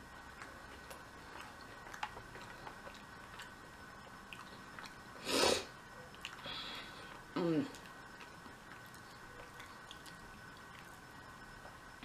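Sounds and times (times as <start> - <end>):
quiet chewing: 0.0 - 12.0.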